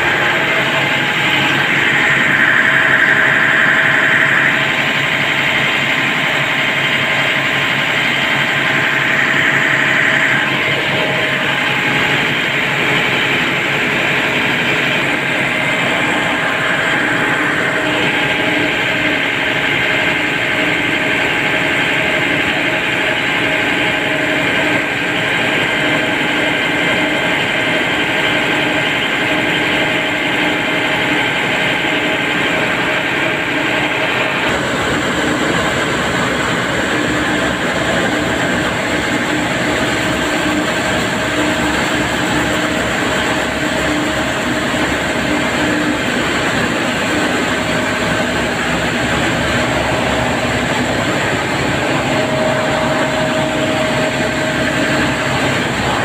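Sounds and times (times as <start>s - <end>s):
diesel engines droning: 0.0s - 56.0s
steady engine whine: 0.0s - 56.0s.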